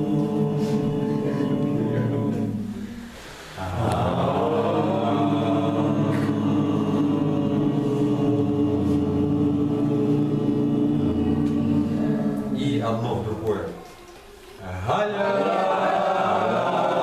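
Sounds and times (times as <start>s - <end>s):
group chanting steady tone: 0.0s - 13.1s, 14.6s - 17.0s.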